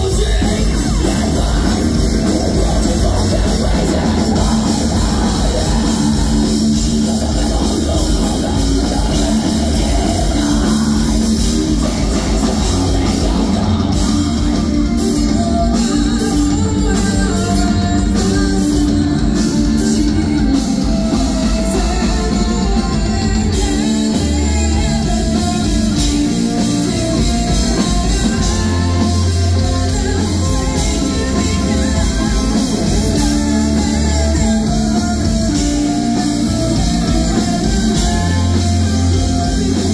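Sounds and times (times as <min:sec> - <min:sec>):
distorted electric guitar: 0:00.0 - 0:39.9
drum kit: 0:00.0 - 0:39.9
keyboards: 0:00.0 - 0:39.9
woman singing: 0:00.0 - 0:39.9.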